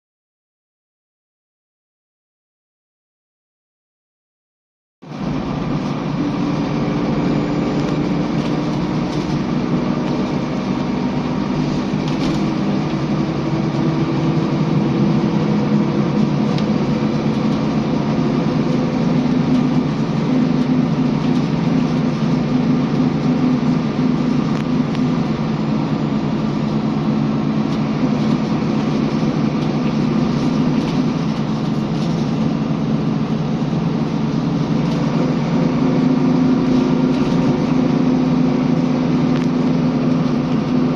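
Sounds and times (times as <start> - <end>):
bus engine drone: 5.0 - 40.9.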